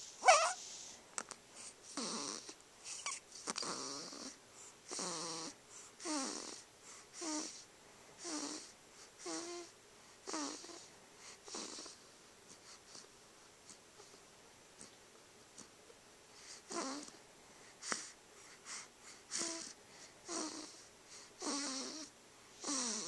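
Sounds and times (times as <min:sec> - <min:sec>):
wheezy snoring breaths: 0:00.0 - 0:14.2, 0:16.3 - 0:23.0.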